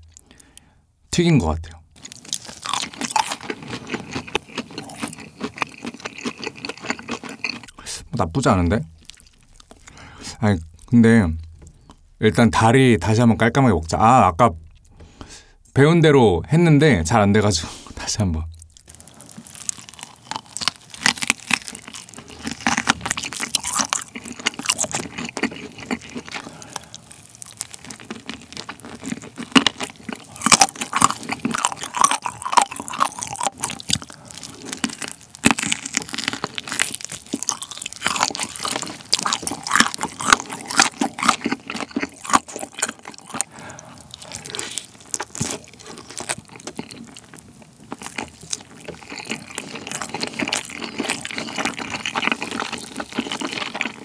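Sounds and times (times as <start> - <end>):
crunching and chewing fried chicken: 2.0 - 12.2, 18.5 - 54.0.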